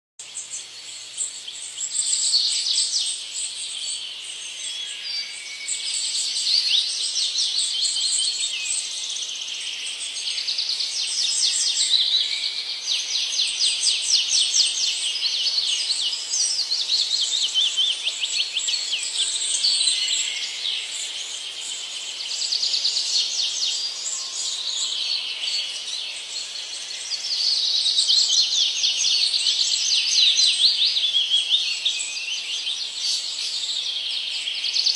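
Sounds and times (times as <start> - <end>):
birds chirping and trilling: 0.2 - 34.9.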